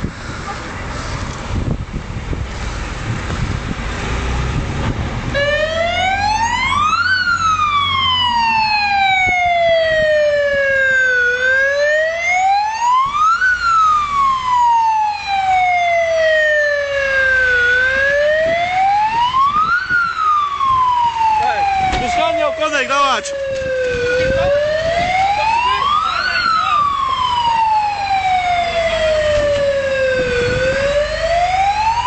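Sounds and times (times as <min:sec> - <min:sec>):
fire engine rumbling: 0:00.0 - 0:32.0
siren wailing: 0:05.3 - 0:32.0.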